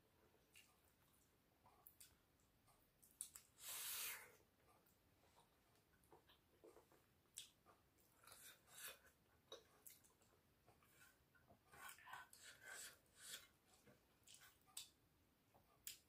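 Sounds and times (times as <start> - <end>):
faint wet chewing and lip smacks: 0.4 - 3.8, 4.4 - 16.0.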